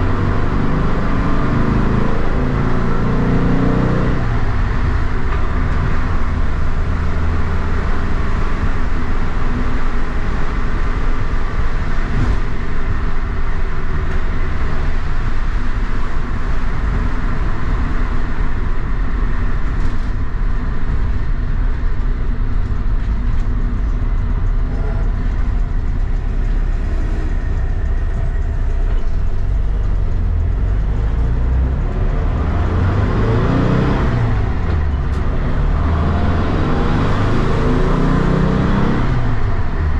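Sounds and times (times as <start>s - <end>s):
van engine running: 0.0s - 3.4s, 4.2s - 39.9s
road noise: 0.0s - 39.9s.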